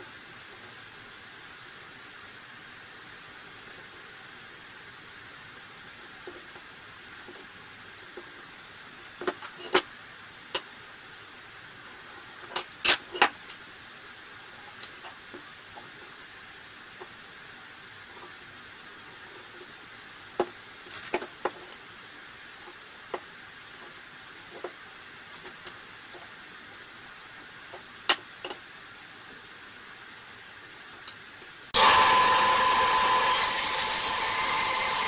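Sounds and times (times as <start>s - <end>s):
faint room tone hiss: 0.0s - 31.8s.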